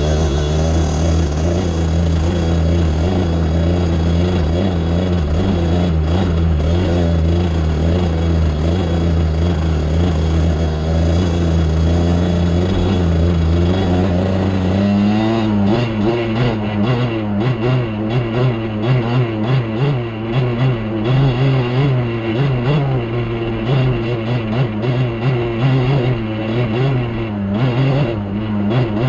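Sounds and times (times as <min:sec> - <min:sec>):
atv engine running and revving: 0:00.0 - 0:29.0.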